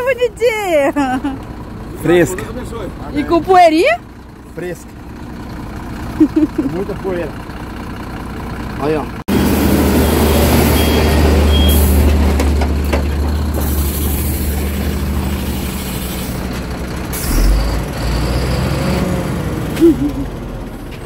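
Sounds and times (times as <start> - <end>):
truck diesel engine drone: 0.0 - 21.0.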